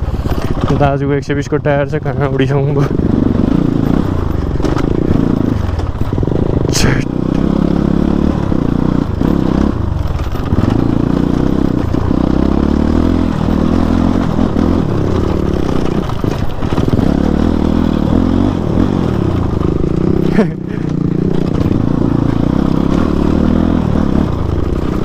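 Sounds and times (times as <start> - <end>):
motorcycle clattering over bumps: 0.0 - 25.0
motorcycle engine revving: 0.0 - 25.0.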